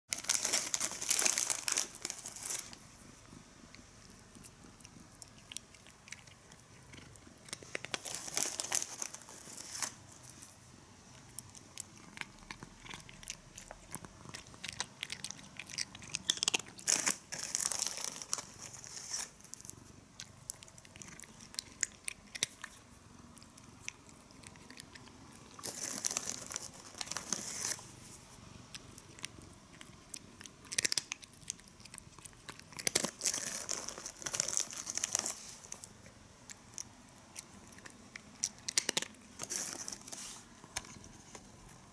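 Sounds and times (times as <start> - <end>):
cat chewing crunchy food: 0.2 - 41.9.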